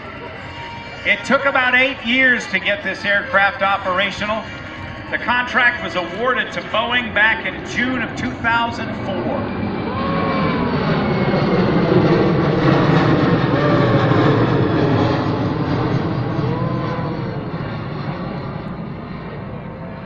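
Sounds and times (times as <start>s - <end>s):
jet engines roaring past: 0.0s - 20.0s.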